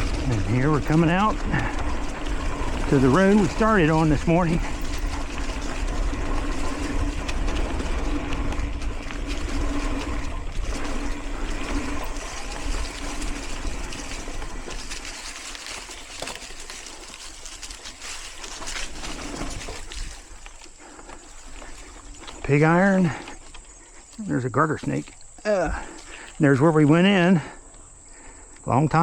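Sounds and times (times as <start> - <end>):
low hum: 0.0 - 26.4
bike tyre noise: 0.0 - 29.0.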